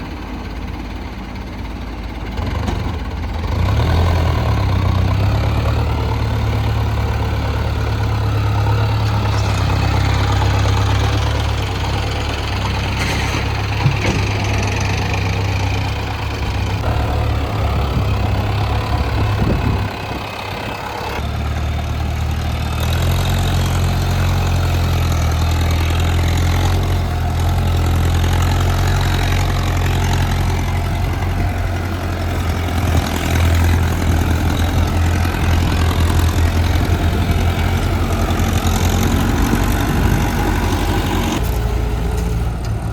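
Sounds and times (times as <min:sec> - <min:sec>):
diesel engines running: 0:00.0 - 0:42.9.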